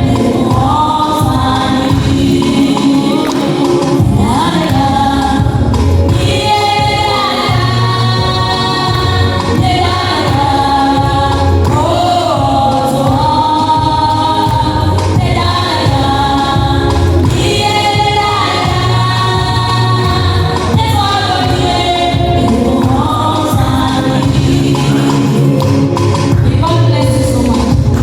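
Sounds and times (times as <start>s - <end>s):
choir singing gospel: 0.0s - 28.0s
instrumental backing with bass: 0.0s - 28.0s.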